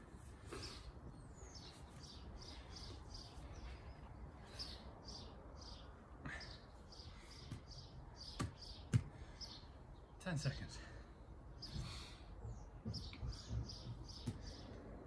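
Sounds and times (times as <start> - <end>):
bird chirping: 0.0 - 10.4, 11.2 - 15.0.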